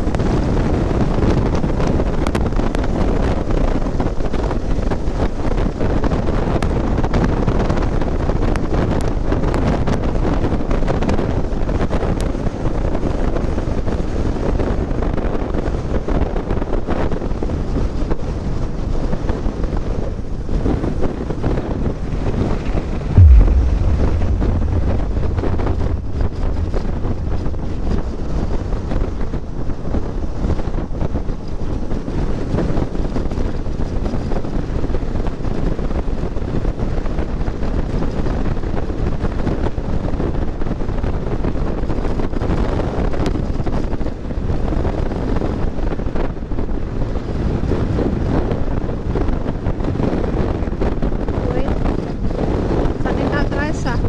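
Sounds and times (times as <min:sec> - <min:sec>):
heavy low wind buffet: 0:00.0 - 0:54.0
wind rushing over microphone: 0:00.0 - 0:54.0.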